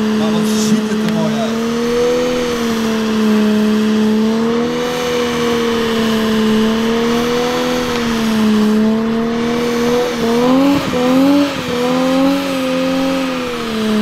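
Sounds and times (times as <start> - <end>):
car engine at high revs: 0.0 - 14.0
tyres spinning: 0.0 - 14.0.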